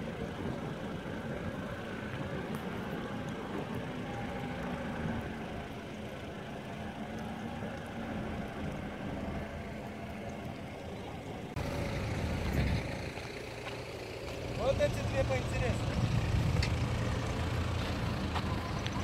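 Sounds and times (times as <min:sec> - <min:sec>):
low engine rumble: 0:00.0 - 0:19.0
suv engine running under load: 0:00.0 - 0:19.0.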